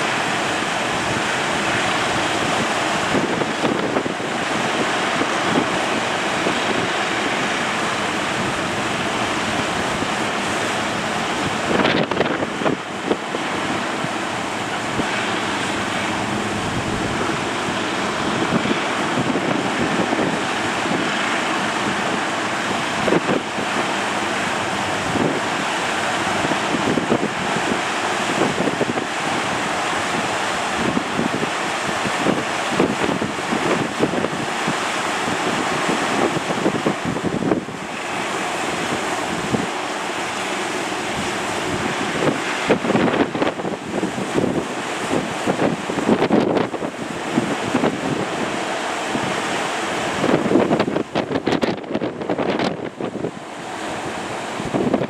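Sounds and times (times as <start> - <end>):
waves breaking: 0.0 - 55.0
wind buffeting microphone: 0.0 - 55.0.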